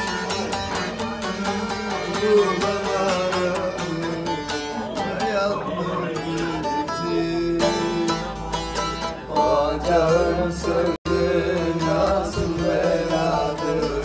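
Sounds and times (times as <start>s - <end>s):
long-necked lute folk melody: 0.0s - 14.0s.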